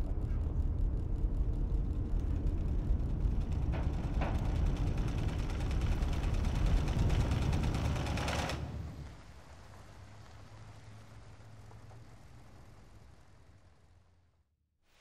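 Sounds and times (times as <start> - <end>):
car engine and tyre rumble: 0.0 - 14.5.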